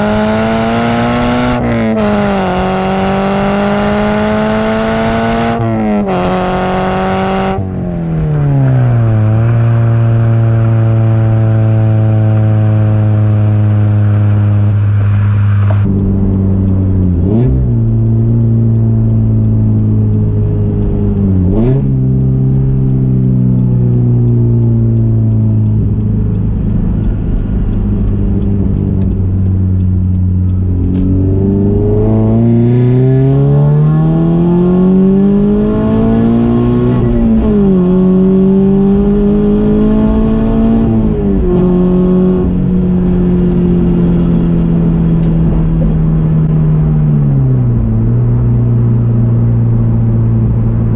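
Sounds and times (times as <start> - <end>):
car engine cruising and revving: 0.0 - 50.9.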